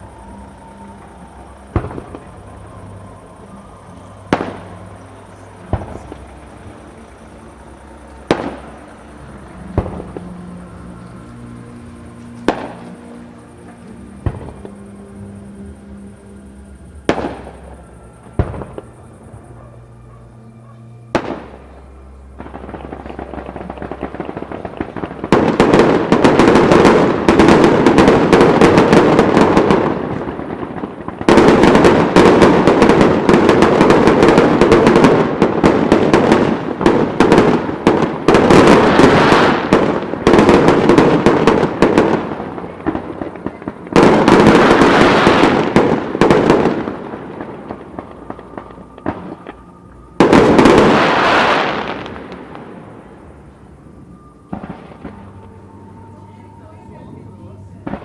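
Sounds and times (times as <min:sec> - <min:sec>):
fireworks bangs and crackling: 0:00.0 - 0:19.9, 0:21.0 - 0:58.0.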